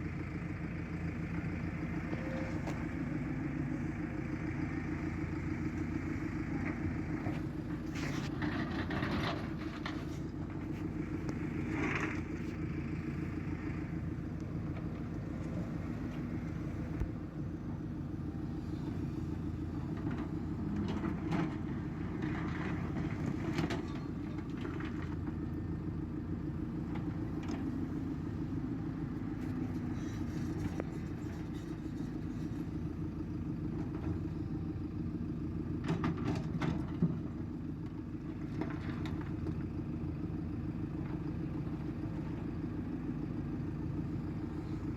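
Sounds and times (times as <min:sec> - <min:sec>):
diesel digger engine running: 0:00.0 - 0:44.9.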